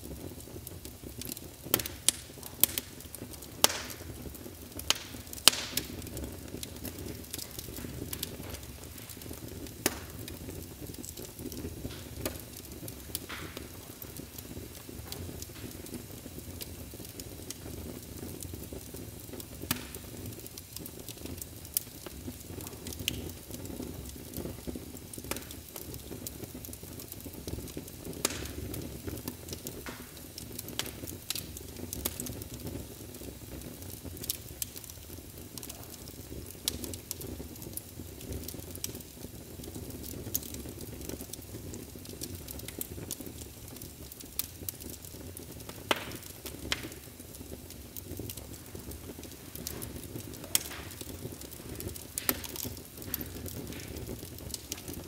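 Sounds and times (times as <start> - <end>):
fire crackling and popping: 0.0 - 55.0
low rumble of fire: 0.0 - 55.0.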